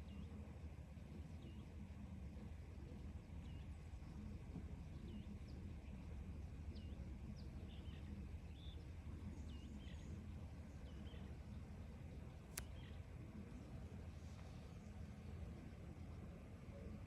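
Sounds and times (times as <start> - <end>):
low outdoor rumble: 0.0 - 17.0
faint bird chirps: 1.2 - 17.0.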